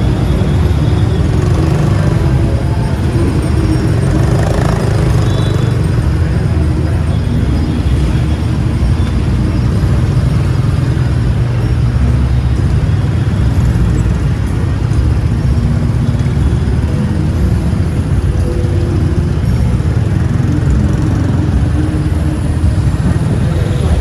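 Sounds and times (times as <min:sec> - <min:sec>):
motorbike engine and road noise: 0:00.0 - 0:24.0.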